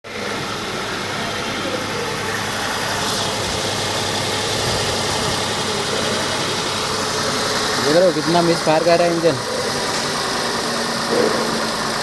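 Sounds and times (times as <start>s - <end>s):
car engine idling and misfiring: 0.0s - 12.0s.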